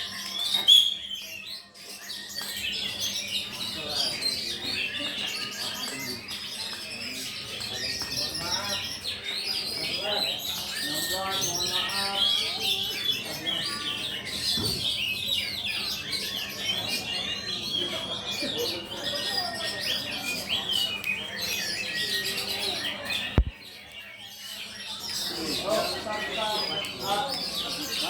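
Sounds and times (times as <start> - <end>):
faint voices: 0.0 - 28.0
songbirds singing: 0.0 - 28.0.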